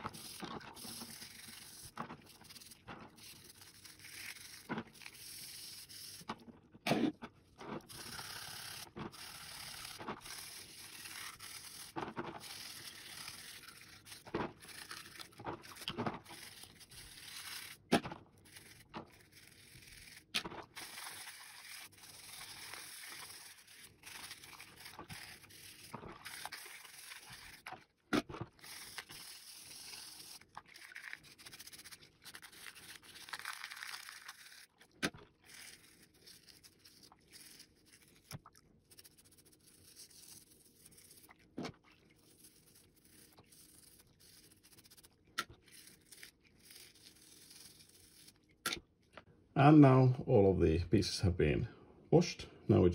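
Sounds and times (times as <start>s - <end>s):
toothbrush scrubbing in soapy water: 0.0s - 6.4s, 7.6s - 48.8s.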